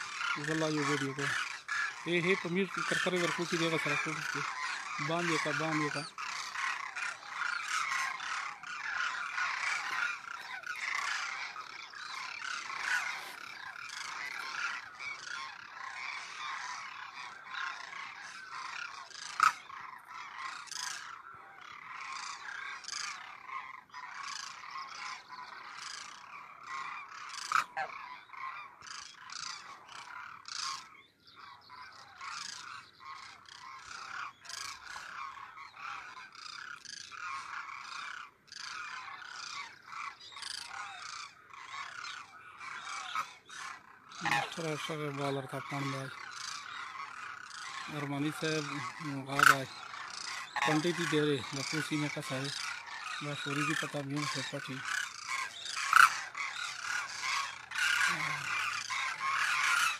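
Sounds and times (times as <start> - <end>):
flock of cranes calling: 0.0 - 59.9.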